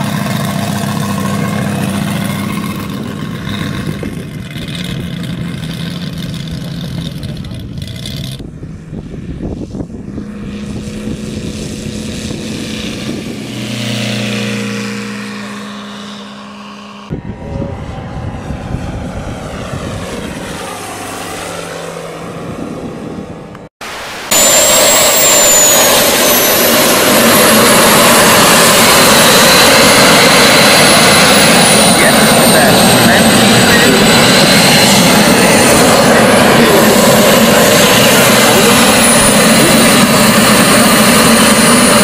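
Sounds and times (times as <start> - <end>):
model airplane propeller engine: 0.0 - 23.7, 24.3 - 42.0
high-pitched jet model whine: 0.0 - 42.0.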